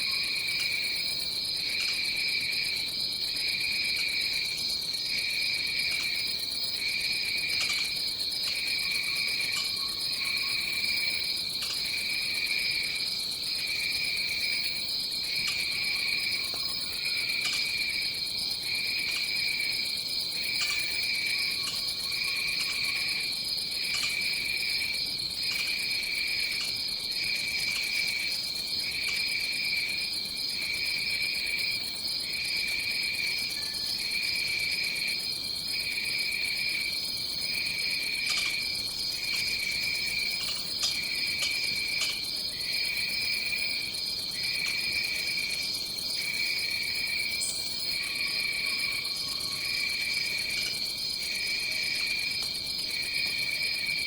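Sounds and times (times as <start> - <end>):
lower insect song pulsing: 0.0 - 54.0.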